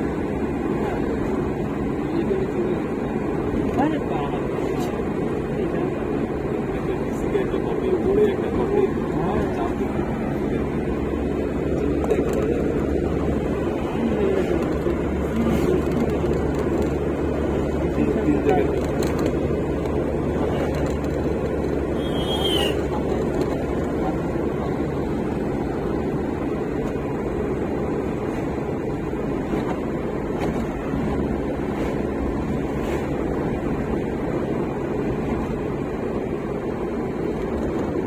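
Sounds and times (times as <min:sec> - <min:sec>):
moving vehicle rumble: 0:00.0 - 0:38.0.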